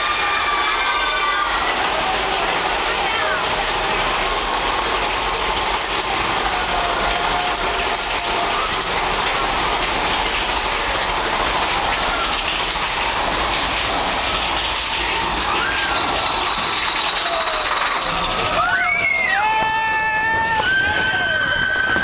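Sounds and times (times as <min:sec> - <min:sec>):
roller coaster rattling on track: 0:00.0 - 0:22.0.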